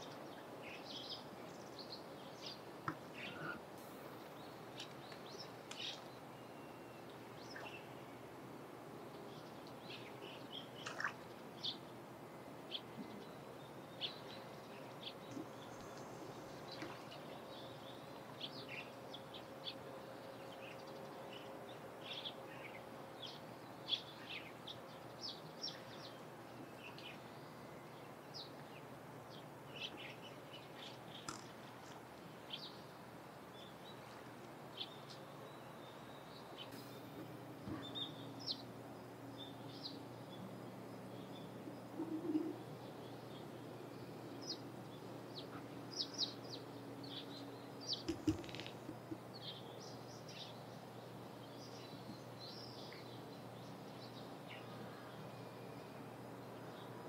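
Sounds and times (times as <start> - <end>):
small birds chirping: 0.0 - 8.2, 9.0 - 12.0, 12.6 - 57.0
faint steady hum: 0.0 - 57.0
outdoor background hiss: 0.0 - 57.0.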